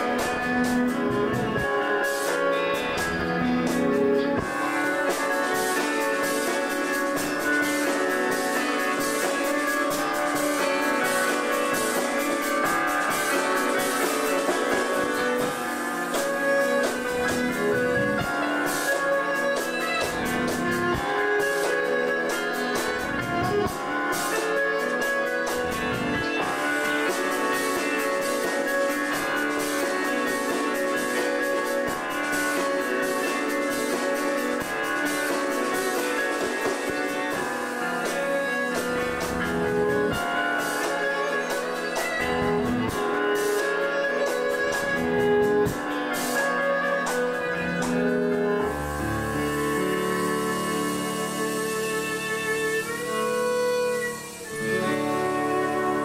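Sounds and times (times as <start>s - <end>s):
bowed violins: 0.0s - 56.0s
drums: 0.0s - 56.0s
guitar: 0.0s - 56.0s.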